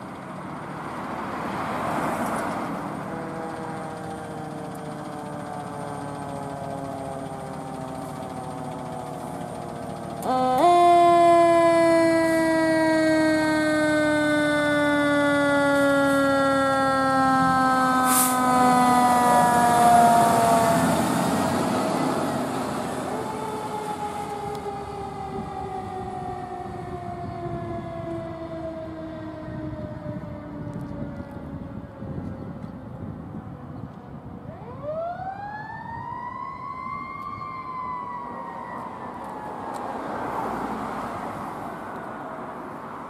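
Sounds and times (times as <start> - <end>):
fire engine siren wailing: 0.0 - 43.0.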